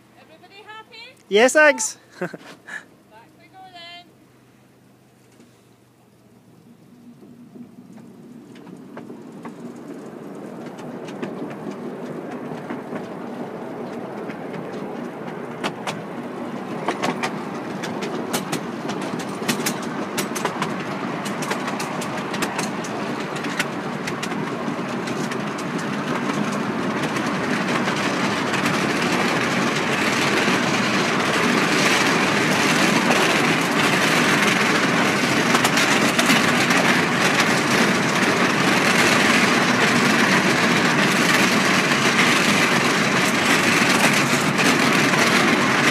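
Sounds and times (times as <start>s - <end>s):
miniature train running on track: 7.0s - 45.9s.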